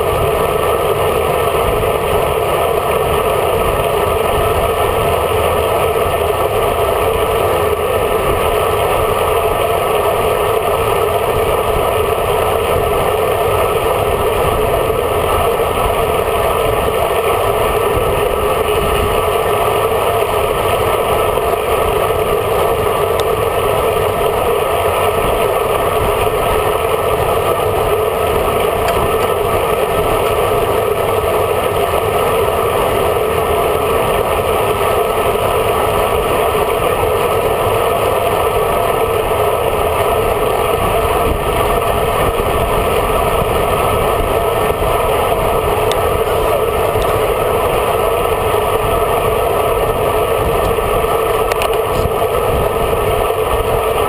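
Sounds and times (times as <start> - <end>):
wind and tyre noise: 0.0 - 54.0.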